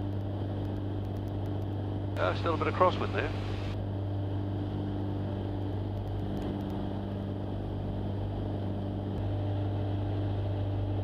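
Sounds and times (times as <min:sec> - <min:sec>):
aircraft engine and propeller droning: 0:00.0 - 0:11.0.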